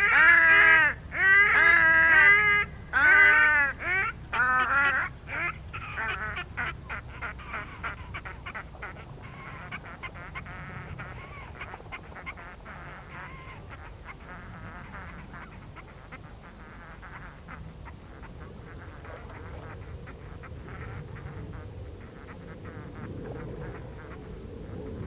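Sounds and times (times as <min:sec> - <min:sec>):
swans honking calls echoing: 0:00.0 - 0:25.0.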